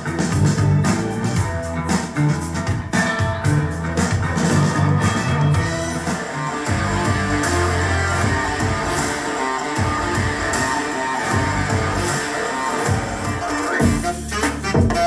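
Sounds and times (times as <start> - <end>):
rock music with guitar and bass: 0.0 - 15.0.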